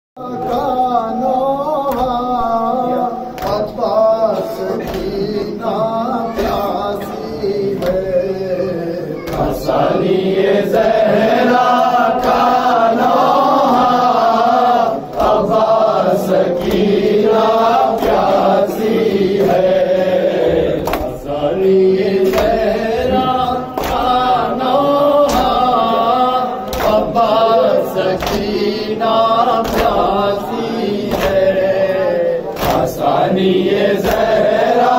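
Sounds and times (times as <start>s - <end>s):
men chanting in unison: 0.2s - 34.9s.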